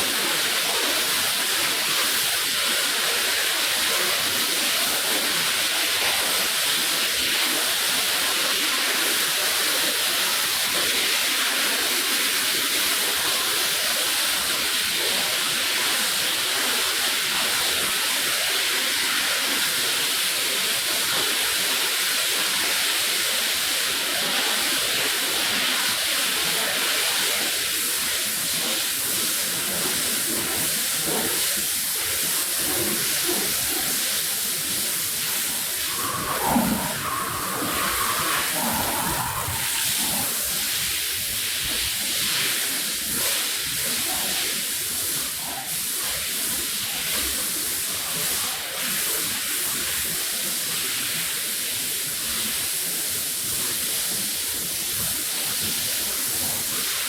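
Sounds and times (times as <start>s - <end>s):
water spray hissing onto rug: 0.0s - 57.0s.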